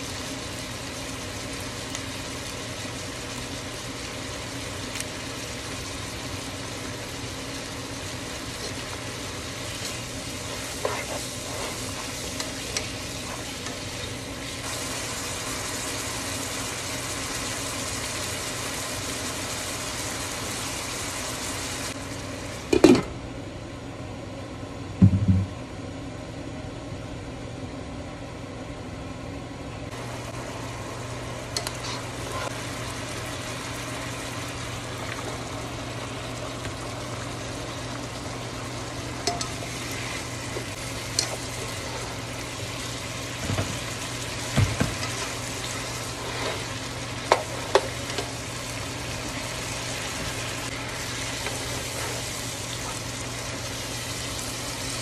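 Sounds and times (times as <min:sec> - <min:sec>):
cabbage and beef sizzling in pot: 0:00.0 - 0:23.1, 0:29.9 - 0:55.0.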